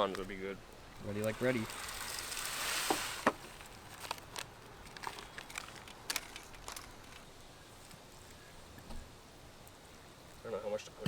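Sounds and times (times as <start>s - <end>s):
campfire crackles and clicks: 0.0s - 11.0s
faint hiss: 0.0s - 11.0s.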